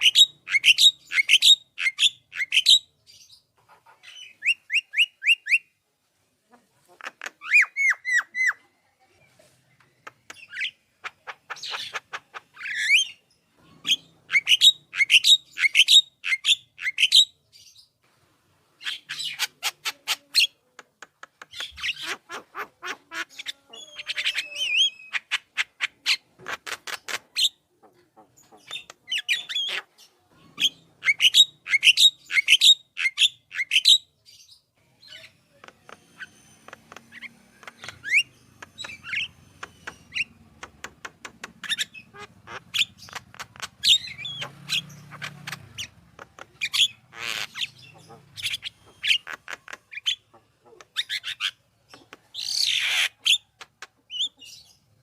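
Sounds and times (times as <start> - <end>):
myna bird singing: 0.0 - 5.8, 6.8 - 8.7, 9.3 - 18.0, 18.8 - 55.0.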